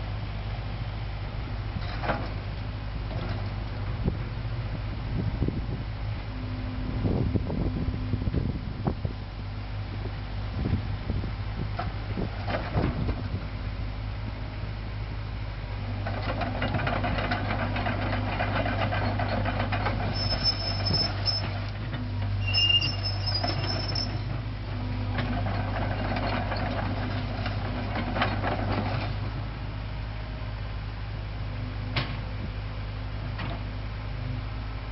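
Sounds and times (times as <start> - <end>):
excavator diesel engine running: 0.0 - 34.9
excavator working noise: 0.0 - 34.9.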